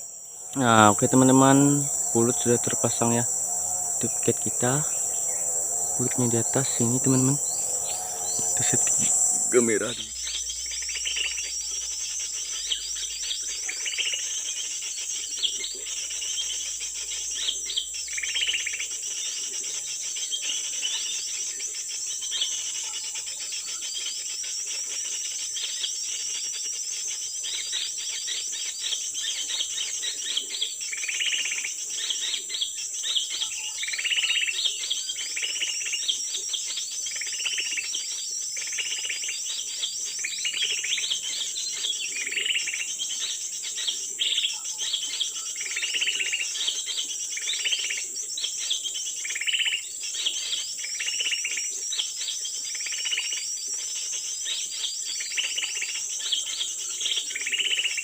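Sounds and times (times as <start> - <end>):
forest insects droning: 0.0 - 58.0
small birds chirping: 0.0 - 58.0.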